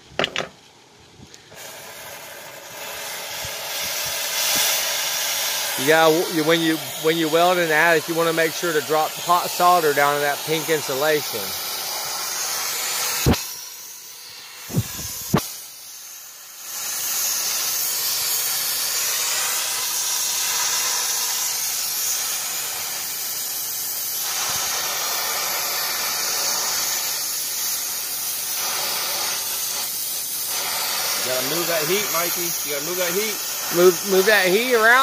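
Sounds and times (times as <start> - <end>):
torch flame hissing: 1.3 - 35.0.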